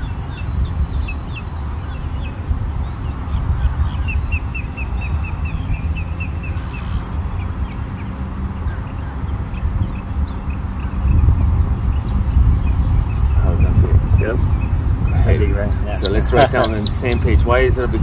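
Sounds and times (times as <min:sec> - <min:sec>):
songbirds chirping: 0:00.0 - 0:18.0
steady low rumble: 0:00.0 - 0:18.0.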